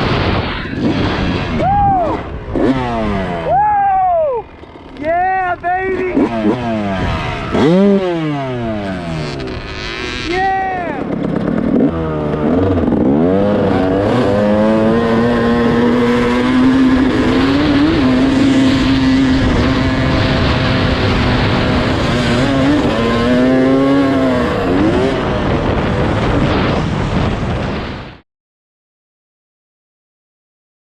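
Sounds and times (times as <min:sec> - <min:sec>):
dirt bike engine revving: 0:00.0 - 0:27.9
rushing wind: 0:00.0 - 0:28.2.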